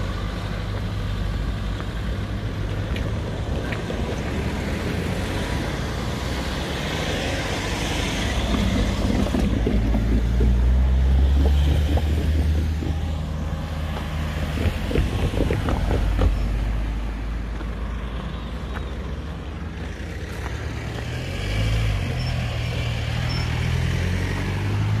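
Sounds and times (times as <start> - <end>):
vehicle engines humming: 0.0 - 25.0.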